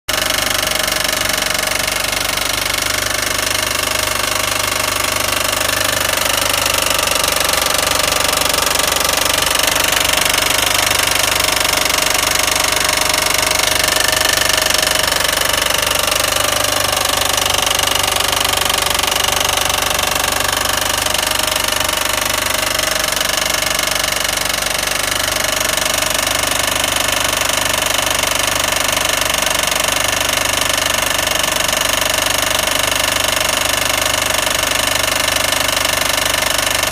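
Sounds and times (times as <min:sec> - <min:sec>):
car engine with rattling knock: 0:00.1 - 0:36.9.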